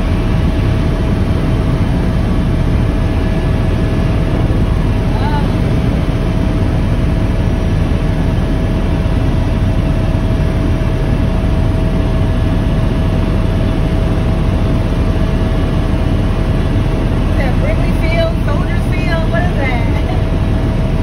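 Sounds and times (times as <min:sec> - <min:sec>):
constant whine: 0:00.0 - 0:21.0
helicopter engine and rotor drone: 0:00.0 - 0:21.0.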